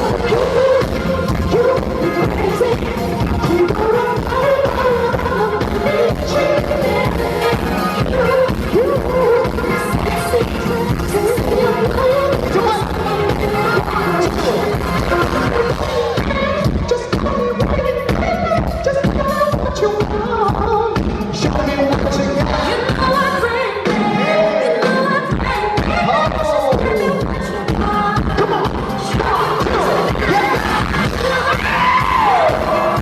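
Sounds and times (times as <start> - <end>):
dance beat: 0.0 - 23.3, 25.3 - 33.0
pop song with singing: 0.0 - 33.0.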